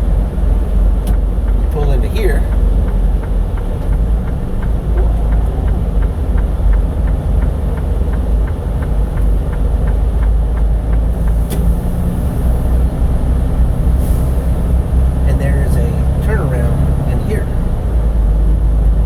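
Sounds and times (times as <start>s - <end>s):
diesel truck engine running: 0.0s - 19.0s
faint steady ticking: 0.0s - 19.0s.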